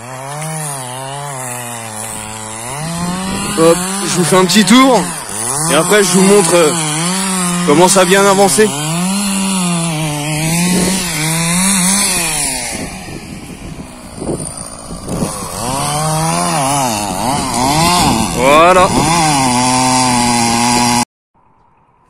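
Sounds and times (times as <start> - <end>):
chainsaw cutting wood: 0.0 - 21.1.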